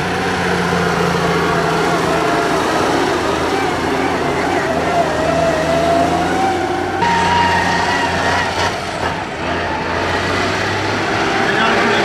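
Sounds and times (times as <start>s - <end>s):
tractor engine whining: 0.0s - 12.0s.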